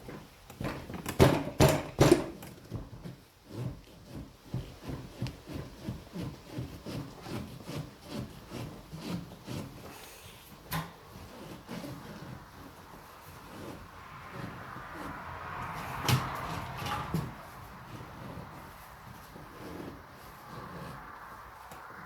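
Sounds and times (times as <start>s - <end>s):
rubber grip rubbing on handlebar: 2.0s - 22.0s.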